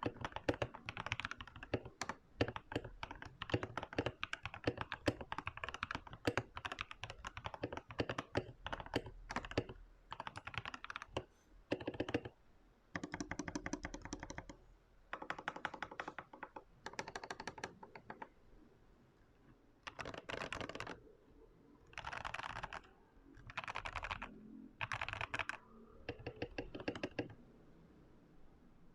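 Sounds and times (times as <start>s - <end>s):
typing on clicky mechanical keyboard: 0.0s - 12.4s, 13.0s - 18.3s, 19.8s - 21.0s, 21.8s - 27.4s.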